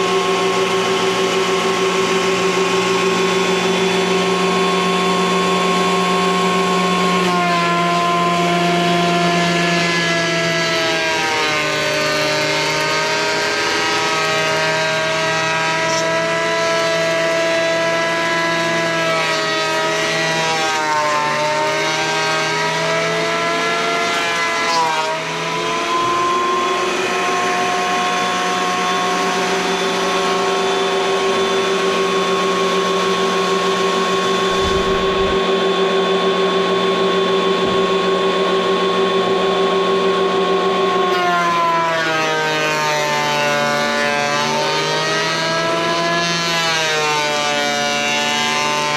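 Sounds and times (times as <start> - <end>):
thickness planer motor whine: 0.0 - 48.9.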